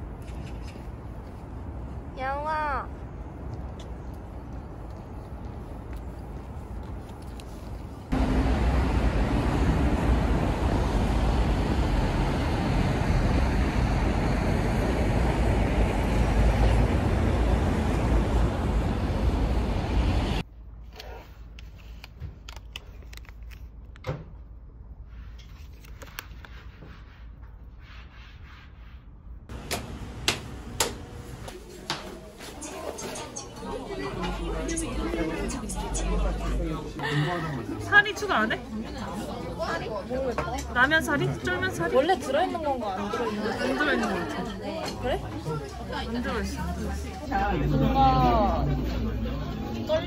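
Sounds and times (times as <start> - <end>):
city street noise: 0.0 - 50.0.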